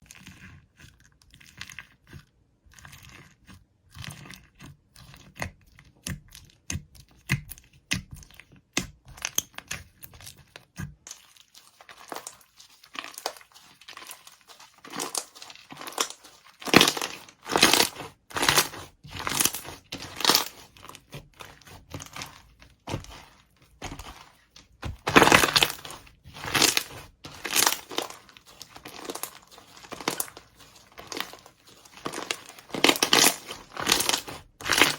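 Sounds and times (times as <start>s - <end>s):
slime with beads crackling: 0.0s - 34.9s.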